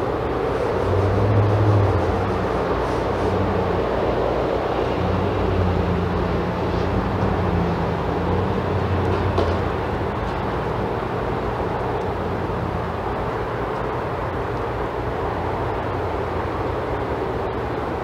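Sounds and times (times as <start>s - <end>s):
engine rumble: 0.0s - 18.0s.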